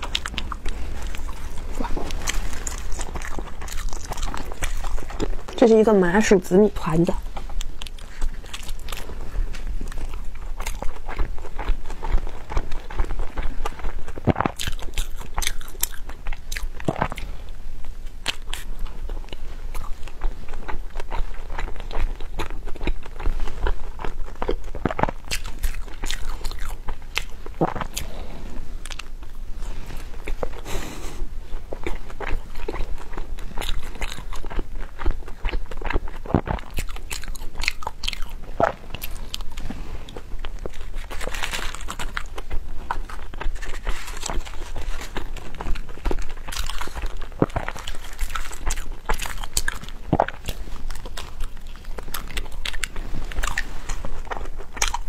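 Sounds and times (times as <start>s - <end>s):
chewing with mouth clicks: 0.0s - 55.0s.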